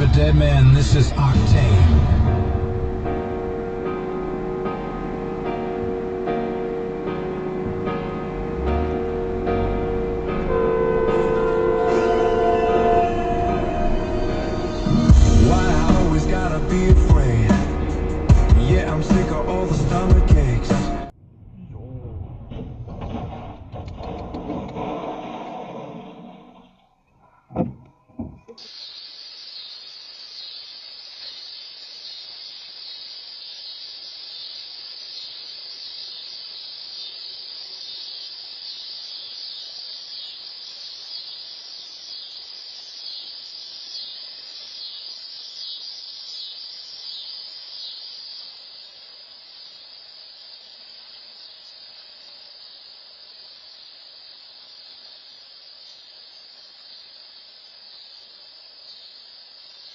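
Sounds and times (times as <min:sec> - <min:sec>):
insect chorus: 0:00.0 - 0:21.2, 0:22.5 - 0:59.9.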